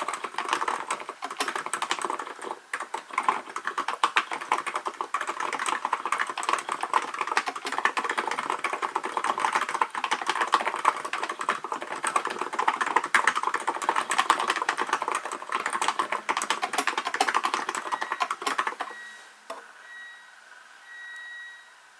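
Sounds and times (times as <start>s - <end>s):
fast keyboard typing: 0.0s - 19.0s.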